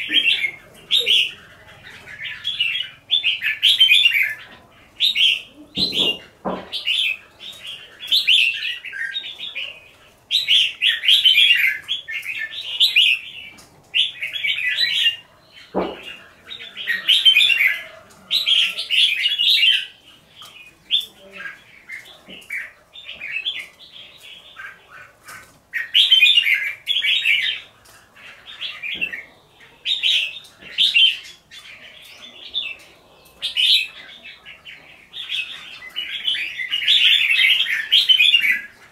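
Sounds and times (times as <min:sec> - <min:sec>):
birds singing warbled phrases: 0:00.0 - 0:38.9.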